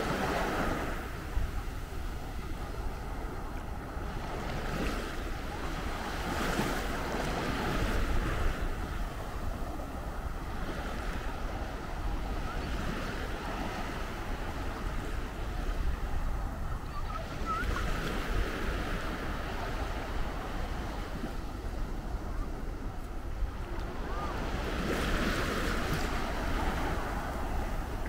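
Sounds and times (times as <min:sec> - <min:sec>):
waves washing onto sand: 0:00.0 - 0:28.0
wind buffeting microphone: 0:00.0 - 0:28.0.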